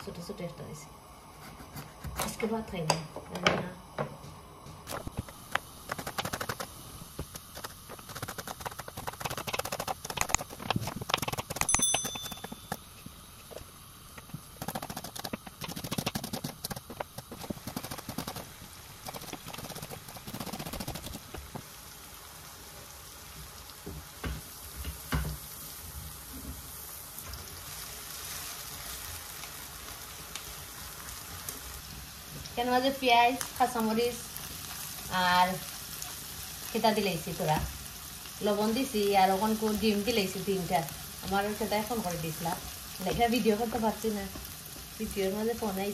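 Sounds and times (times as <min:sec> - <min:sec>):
onions sizzling in a frying pan: 0:02.5 - 0:11.7, 0:12.7 - 0:45.9.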